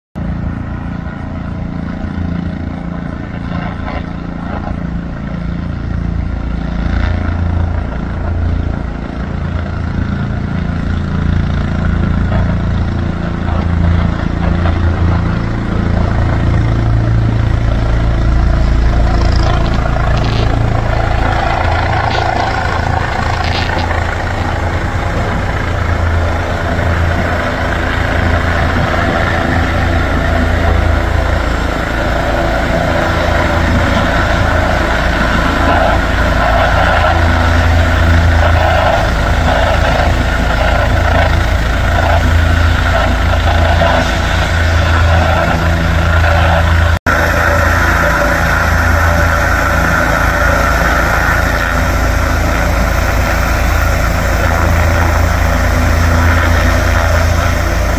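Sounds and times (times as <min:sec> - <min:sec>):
engine idling: 0:07.5 - 0:57.9.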